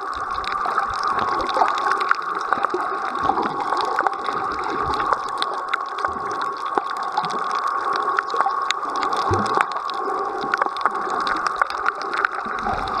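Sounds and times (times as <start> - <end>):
underwater clicks and crackles: 0.0 - 13.0
underwater rushing water: 0.0 - 13.0.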